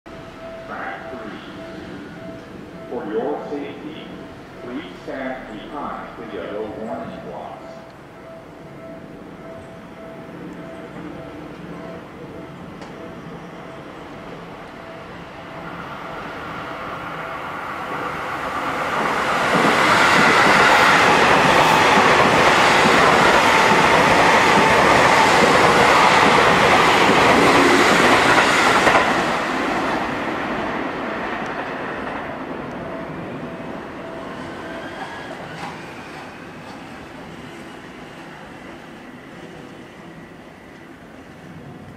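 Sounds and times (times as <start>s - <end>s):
electric train passing: 0.1s - 41.9s.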